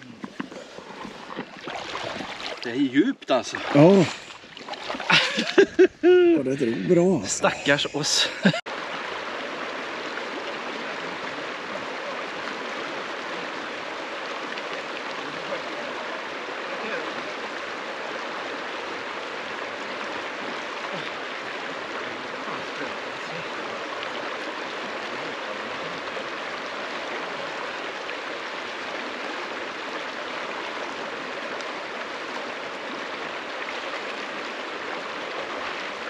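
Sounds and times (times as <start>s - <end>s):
river rushing over a ford: 0.0s - 36.0s.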